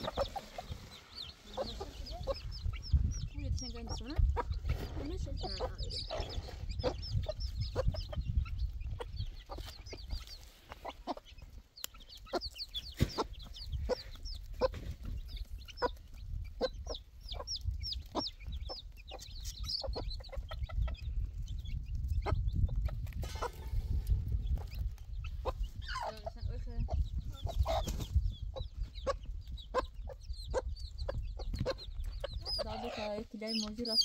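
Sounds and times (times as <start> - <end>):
chicks peeping: 0.0 - 34.0
hen clucking: 0.0 - 34.0.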